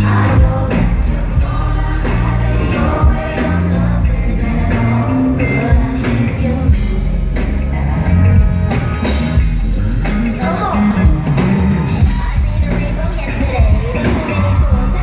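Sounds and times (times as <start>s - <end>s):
woman singing lead: 0.0s - 9.2s, 10.0s - 15.0s
live band with heavy bass and drums: 0.0s - 15.0s.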